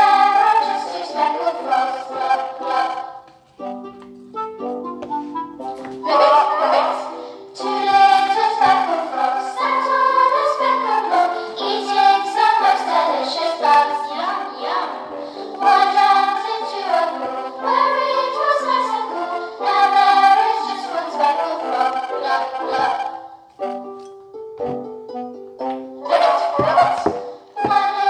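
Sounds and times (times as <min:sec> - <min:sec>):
group singing children's song: 0:00.0 - 0:03.6, 0:05.8 - 0:23.5, 0:26.0 - 0:28.0
backing music: 0:00.0 - 0:28.0.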